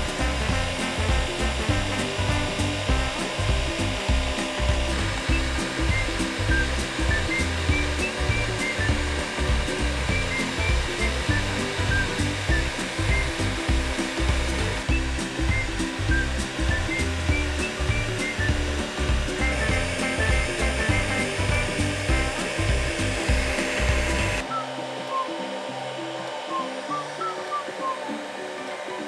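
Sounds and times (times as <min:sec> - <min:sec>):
background music with bass line: 0:00.0 - 0:24.5
hair dryer blowing: 0:00.0 - 0:29.0.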